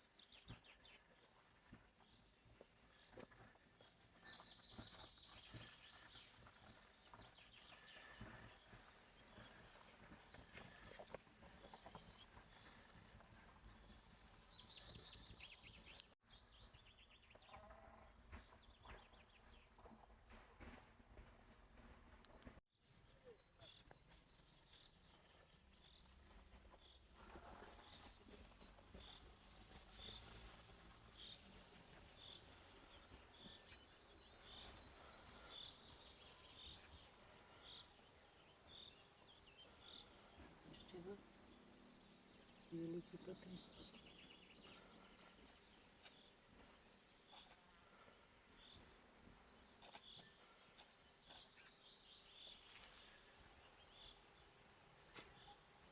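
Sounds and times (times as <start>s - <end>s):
faint outdoor ambience: 0.0s - 55.9s.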